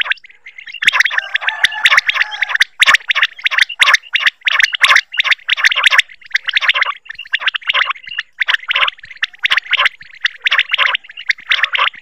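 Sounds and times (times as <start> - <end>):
quail calling: 0.0 - 12.0.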